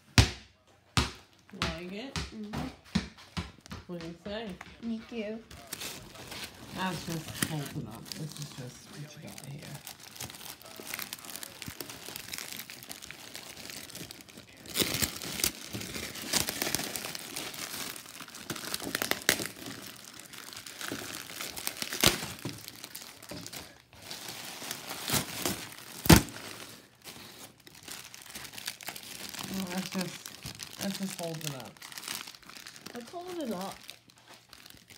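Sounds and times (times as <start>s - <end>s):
plastic wrap crinkling: 5.5s - 34.9s.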